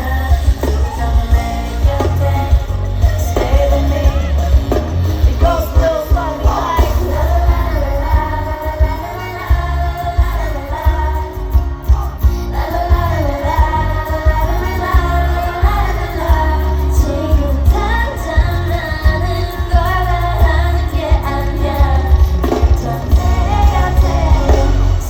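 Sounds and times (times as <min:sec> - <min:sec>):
female voices singing: 0:00.0 - 0:25.0
heavy pulsing bass beat: 0:00.0 - 0:25.0.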